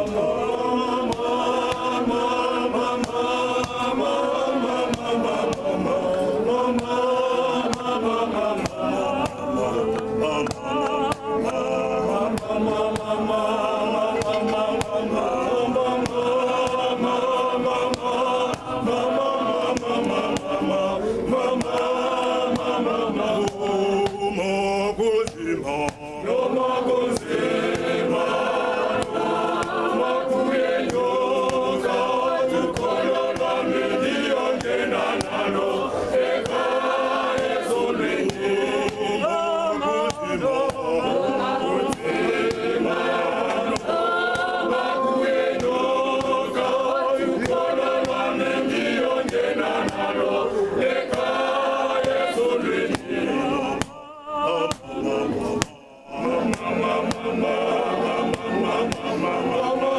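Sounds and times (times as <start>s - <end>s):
men's choir singing unaccompanied: 0.0s - 59.9s.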